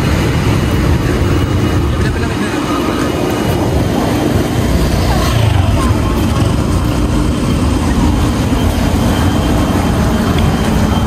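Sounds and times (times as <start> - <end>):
motor scooter passing: 0.0 - 11.0
vehicle engines rumbling: 0.0 - 11.0.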